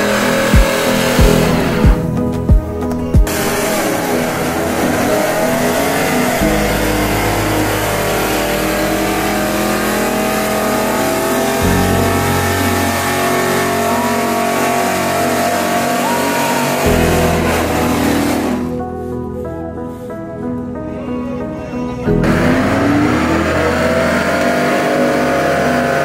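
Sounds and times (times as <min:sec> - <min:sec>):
tyres spinning on asphalt: 0:00.0 - 0:18.7, 0:22.2 - 0:26.0
truck engine at high revs: 0:00.0 - 0:18.8, 0:22.2 - 0:26.0.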